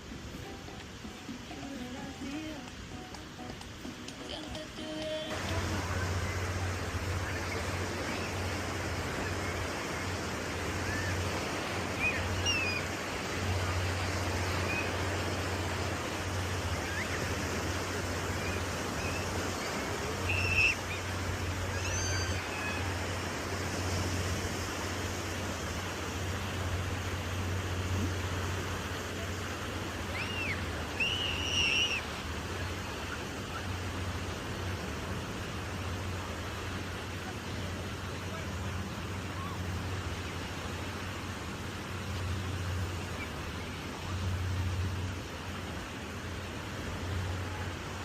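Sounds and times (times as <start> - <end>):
ocean surf: 0.0 - 48.0
wind: 0.0 - 48.0.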